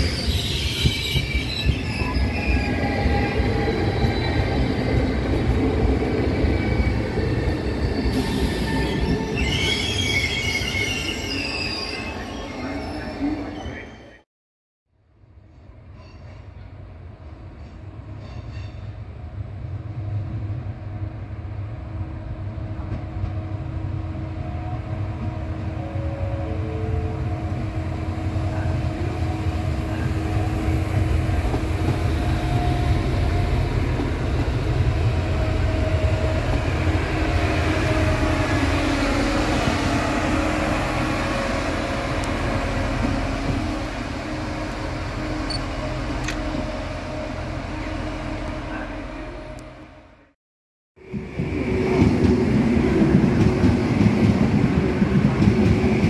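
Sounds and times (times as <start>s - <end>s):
passing train rumble: 0.0s - 13.6s, 15.4s - 50.4s, 51.0s - 56.0s.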